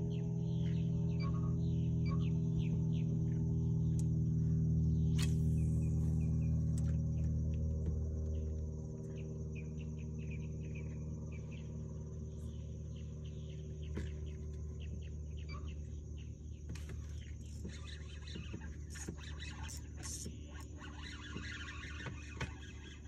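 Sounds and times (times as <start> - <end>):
bird chirps: 0.0 - 7.4, 8.3 - 23.0
low steady hum: 0.0 - 23.0
high insect drone: 2.3 - 23.0.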